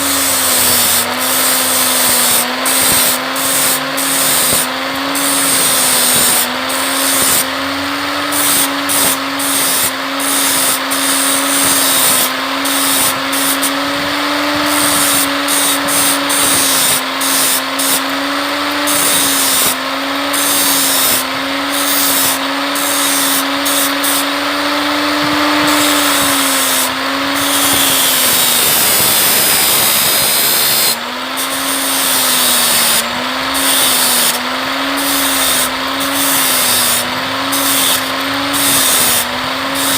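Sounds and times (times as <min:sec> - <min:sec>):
electric power tool whining: 0:00.0 - 0:39.9.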